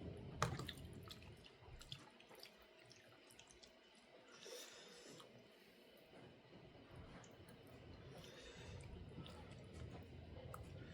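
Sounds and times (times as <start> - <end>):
small wet eating sounds: 0.4 - 10.9.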